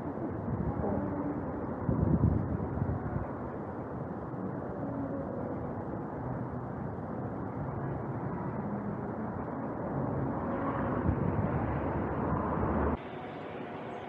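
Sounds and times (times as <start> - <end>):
city street rumble: 0.0 - 14.0.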